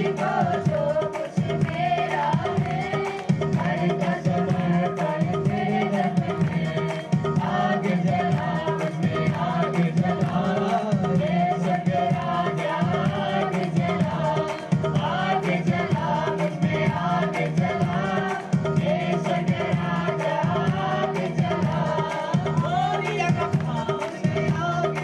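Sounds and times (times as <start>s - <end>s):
hand drum beat: 0.0s - 25.0s
worship song sung to music: 0.0s - 25.0s.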